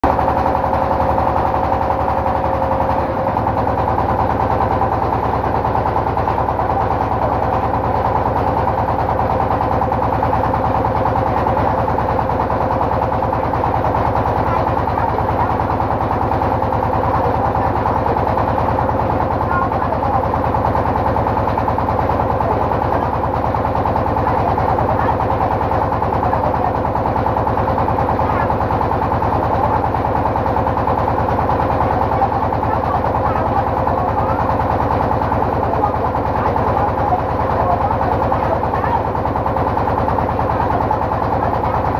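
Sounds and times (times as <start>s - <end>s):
boat engine chugging: 0.0s - 41.9s.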